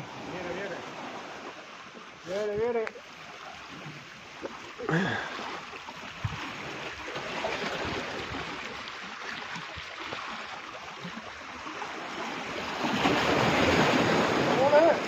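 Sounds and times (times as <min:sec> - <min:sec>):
water lapping at shore: 0:00.0 - 0:15.0.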